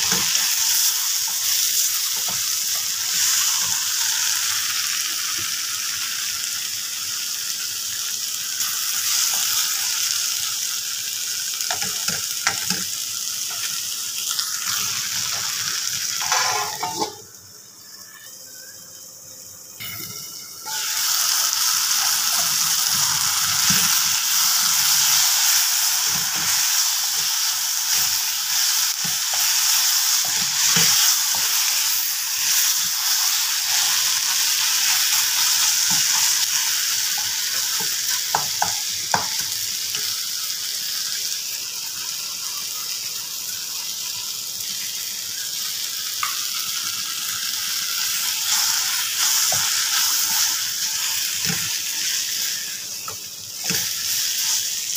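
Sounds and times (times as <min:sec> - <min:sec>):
vegetables sizzling in oil: 0:00.0 - 0:54.9.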